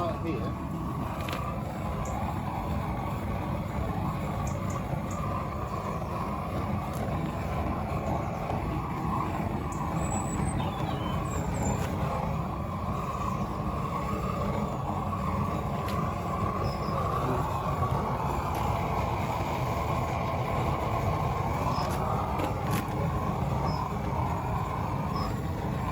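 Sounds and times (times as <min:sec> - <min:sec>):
flame thrower roaring: 0:00.0 - 0:25.9.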